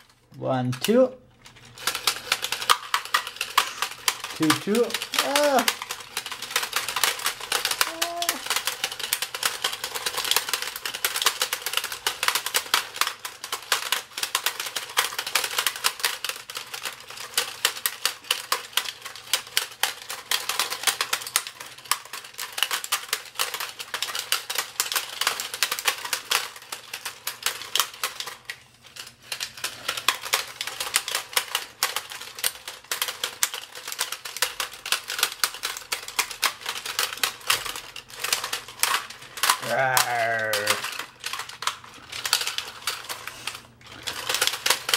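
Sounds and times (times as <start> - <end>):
plastic toy clicking and clacking: 0.0 - 44.9.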